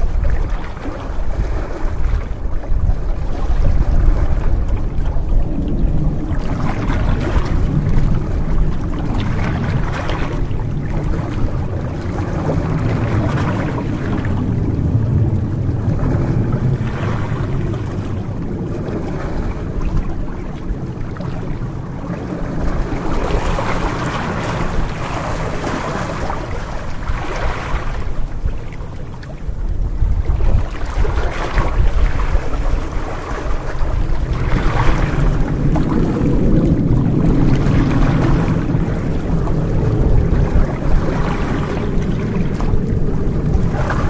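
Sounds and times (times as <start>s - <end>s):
steady low rumble: 0.0s - 44.0s
waves lapping against rocks: 0.0s - 44.0s.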